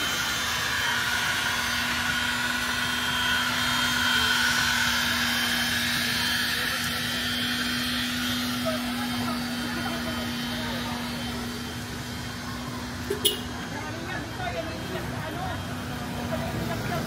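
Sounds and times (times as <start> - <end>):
faint voices: 0.0 - 17.0
mechanical hum: 0.0 - 17.0.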